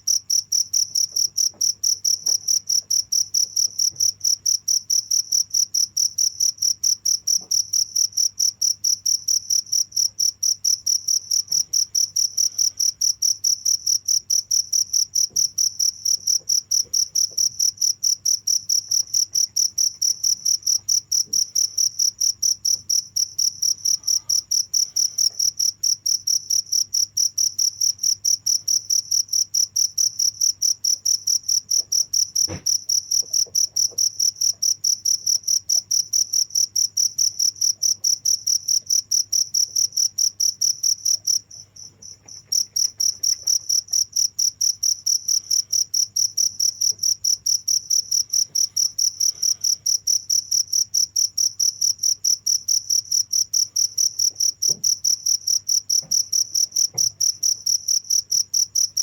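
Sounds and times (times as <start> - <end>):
cricket chirping: 0.1 - 59.0.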